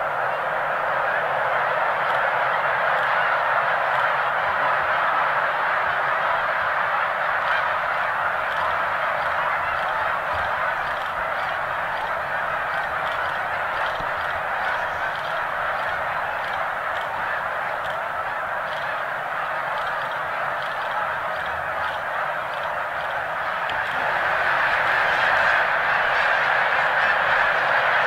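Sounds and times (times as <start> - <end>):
flock of geese honking: 0.0 - 28.0.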